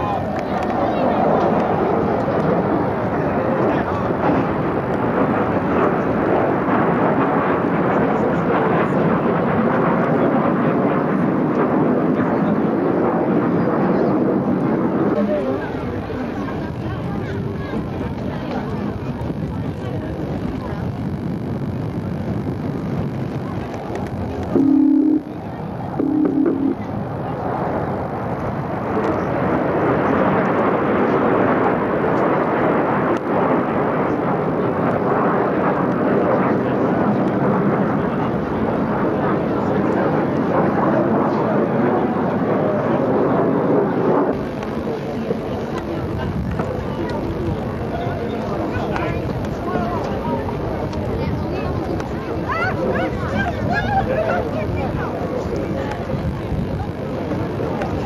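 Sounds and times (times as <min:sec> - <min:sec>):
jet aircraft flying overhead: 0:00.0 - 0:58.0.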